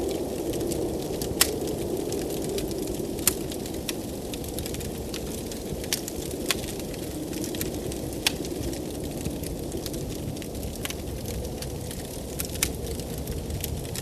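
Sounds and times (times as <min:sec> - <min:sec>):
blizzard wind rushing: 0:00.0 - 0:14.0
wood fire crackling: 0:00.0 - 0:14.0.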